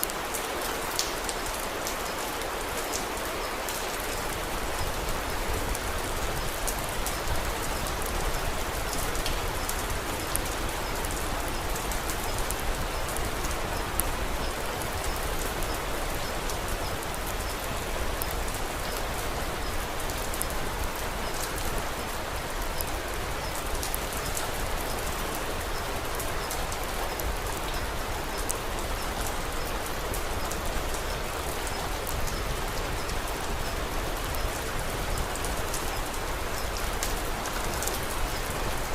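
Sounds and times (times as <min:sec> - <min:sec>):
sharp ticks of raindrops: 0:00.0 - 0:38.9
steady rain falling: 0:00.0 - 0:38.9.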